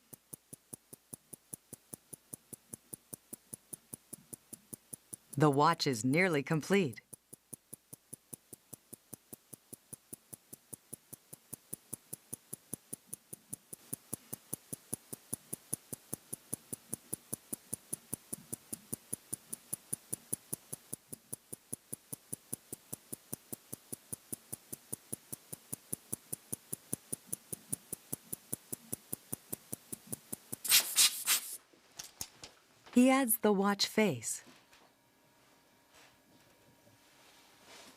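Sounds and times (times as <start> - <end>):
watch ticking: 0.0 - 30.6.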